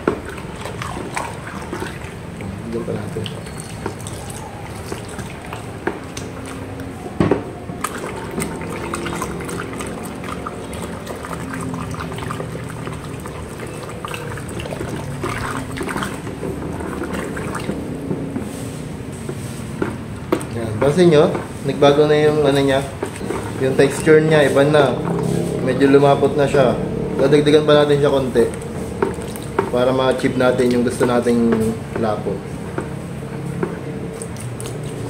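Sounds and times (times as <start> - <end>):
thick liquid sloshing in bucket: 0.0 - 35.0.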